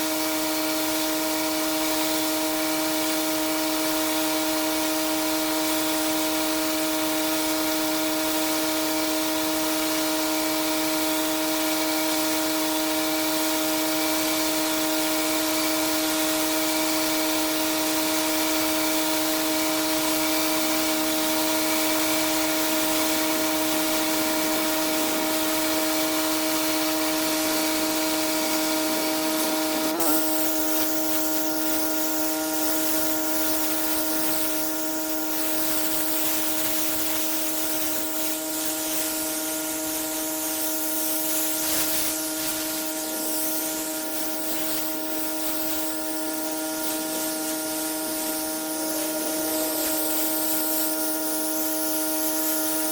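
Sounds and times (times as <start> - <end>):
pressure washer machine hum: 0.0 - 52.9
high-pressure water spray hiss: 0.8 - 52.9.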